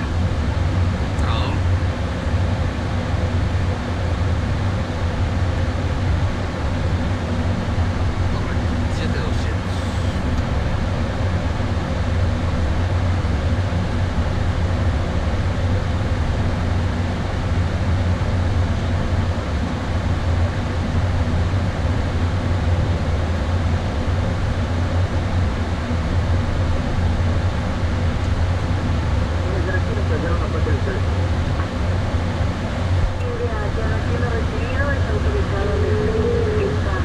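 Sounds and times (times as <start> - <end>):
air-conditioning: 0.0 - 37.0
low hum: 0.0 - 37.0.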